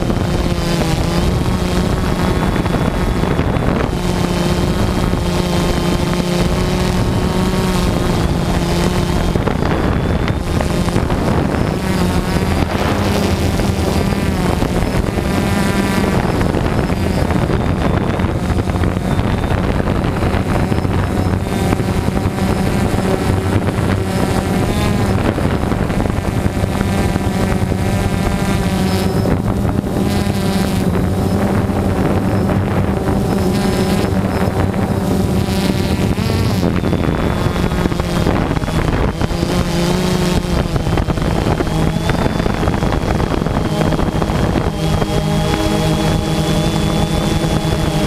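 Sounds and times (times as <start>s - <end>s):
drone propellers humming: 0.0s - 48.0s
wind buffeting microphone: 0.0s - 48.0s.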